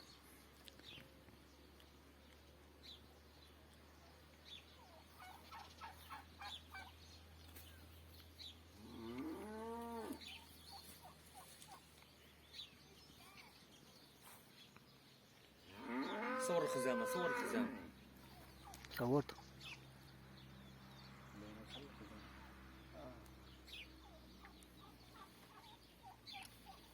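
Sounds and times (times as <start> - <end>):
small birds chirping: 0.0 - 26.9
farmyard animal calls: 2.3 - 14.6, 15.3 - 26.9.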